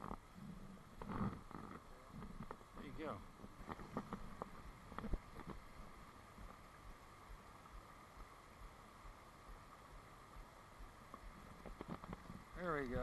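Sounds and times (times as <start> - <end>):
stream water over rocks: 0.0 - 13.0.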